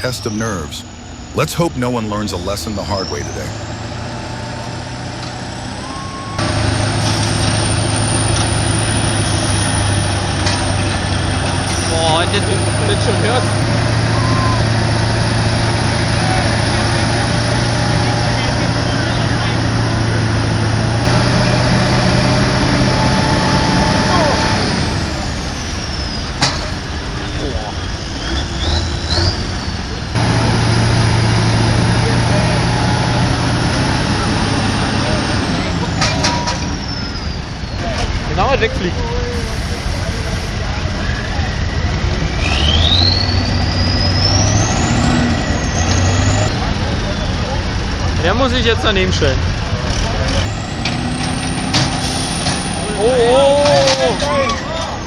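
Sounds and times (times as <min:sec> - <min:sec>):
diesel tractor engines under load: 0:00.0 - 0:55.0.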